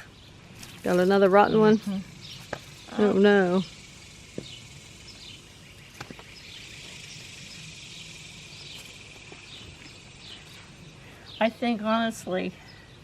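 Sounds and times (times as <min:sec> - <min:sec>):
insect chorus: 0:00.6 - 0:11.5.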